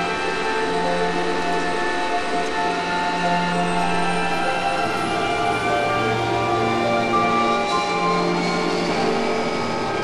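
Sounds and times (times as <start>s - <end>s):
music of long held chords: 0.0s - 10.0s.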